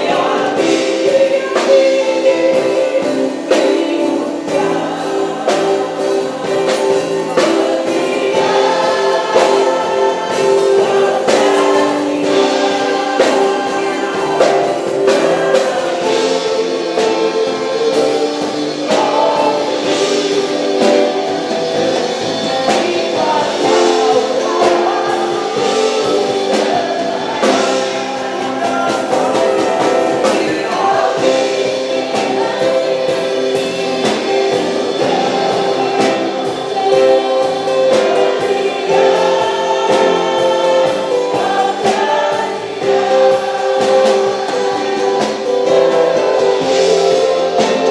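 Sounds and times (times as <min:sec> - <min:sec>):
group singing worship song: 0:00.0 - 0:47.9
instrumental accompaniment with beat: 0:00.0 - 0:47.9.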